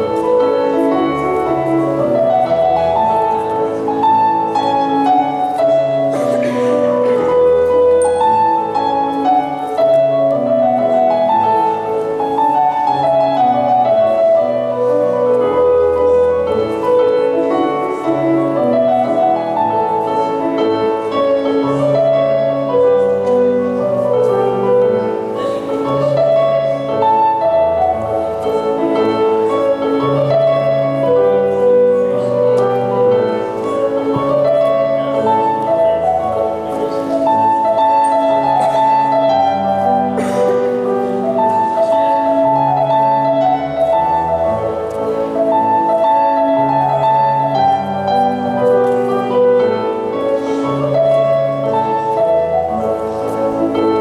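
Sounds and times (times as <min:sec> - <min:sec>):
instrumental scottish dance music: 0:00.0 - 0:54.0.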